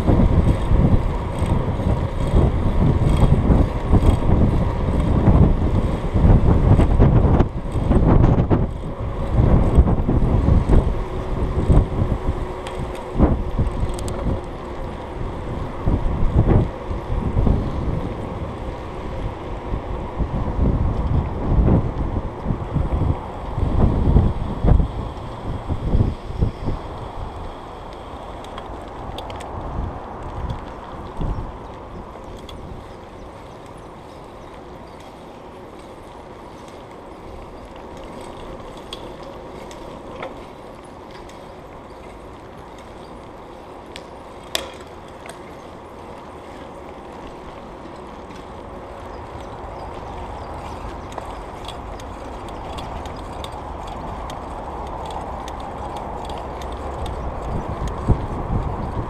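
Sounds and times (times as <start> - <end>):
bicycle tyres rolling: 0.0 - 59.0
bike clicks and rattles: 0.0 - 59.0
wind rumble on microphone: 0.0 - 59.0.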